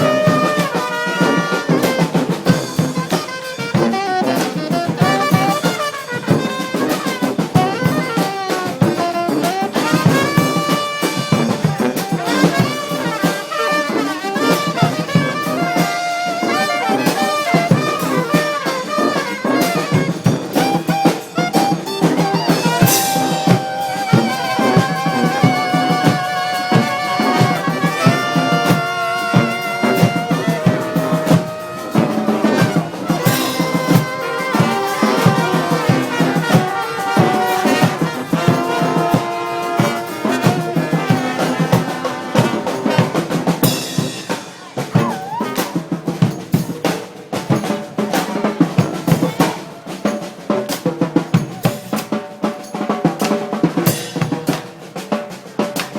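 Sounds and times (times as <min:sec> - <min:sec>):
brass horns playing melody: 0:00.0 - 0:46.7
marching drum beat: 0:00.0 - 0:55.9.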